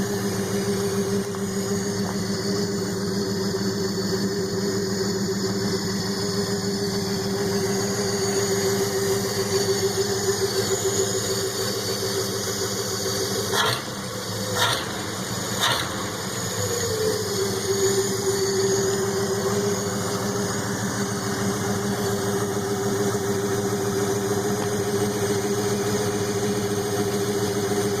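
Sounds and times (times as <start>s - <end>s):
straight-six engine idling: 0.0s - 28.0s.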